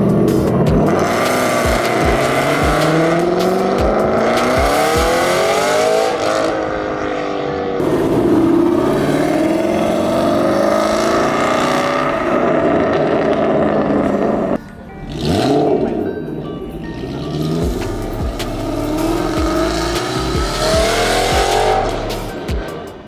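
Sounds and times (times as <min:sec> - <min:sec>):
car engines revving: 0:00.0 - 0:23.0
engine pulling away: 0:00.0 - 0:23.0.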